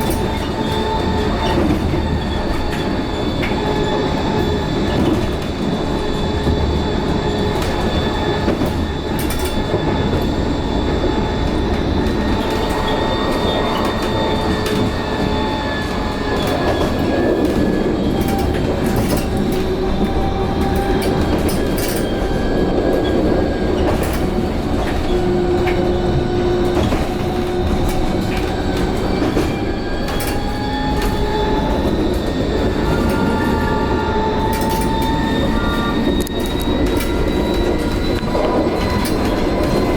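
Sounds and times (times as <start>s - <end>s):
high whining tones: 0.0s - 39.9s
sharp clicks from rails: 0.0s - 39.9s
tram rolling rumble: 0.0s - 39.9s.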